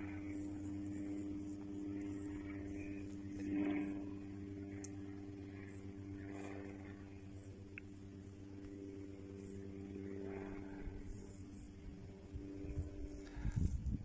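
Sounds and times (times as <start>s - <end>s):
engine hum: 0.0s - 14.0s.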